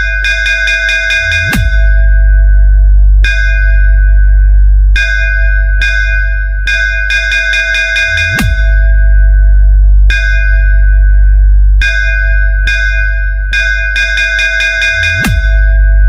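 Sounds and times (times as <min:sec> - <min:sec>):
deep sub-bass: 0:00.0 - 0:16.0.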